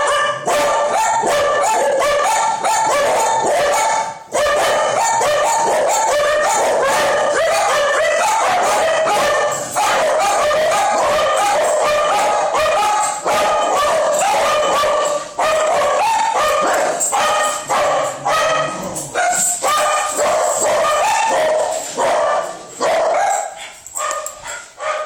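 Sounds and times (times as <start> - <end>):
dogs barking: 0.0 - 25.0.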